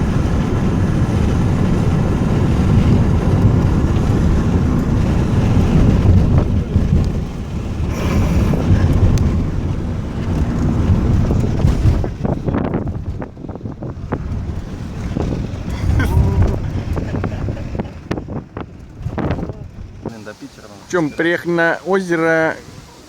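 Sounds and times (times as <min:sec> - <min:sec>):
tyre and suspension rumble: 0:00.0 - 0:23.0.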